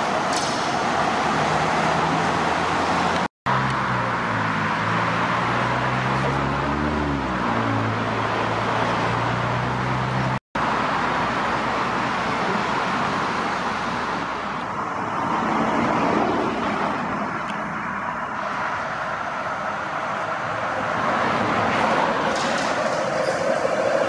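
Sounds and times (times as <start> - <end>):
heavy vehicle engine humming: 0.0 - 24.0
road traffic noise: 0.0 - 24.0.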